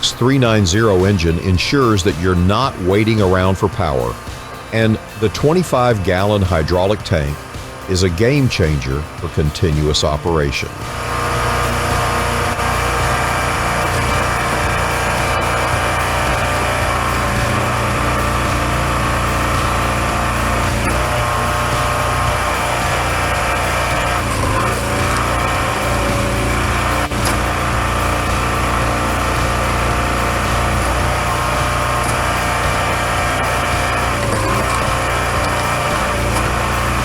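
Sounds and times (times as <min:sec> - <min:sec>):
small petrol engine running: 0:00.0 - 0:37.0.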